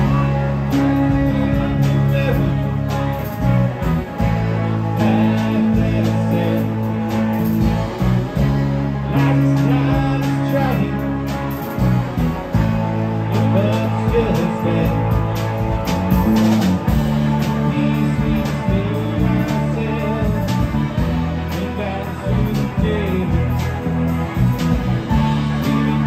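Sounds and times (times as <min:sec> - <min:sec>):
drum kit beat: 0:00.0 - 0:26.0
electric bass notes: 0:00.0 - 0:26.0
electric guitars: 0:00.0 - 0:26.0.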